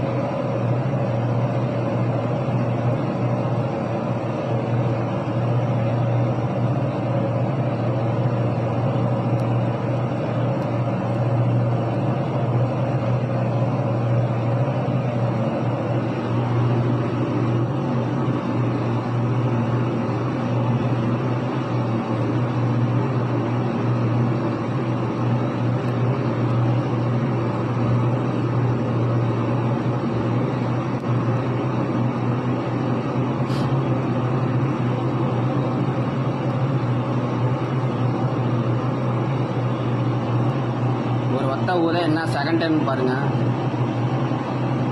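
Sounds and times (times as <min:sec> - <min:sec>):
soldering machine humming: 0:00.0 - 0:44.9.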